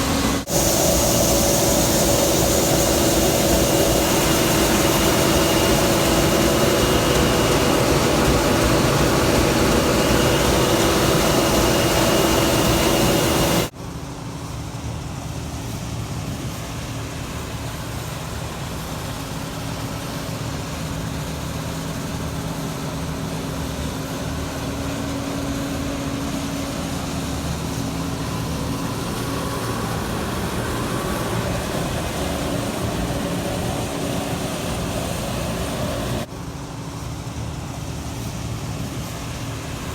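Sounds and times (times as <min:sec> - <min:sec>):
farm machinery engines running: 0:00.0 - 0:13.7, 0:17.2 - 0:39.9.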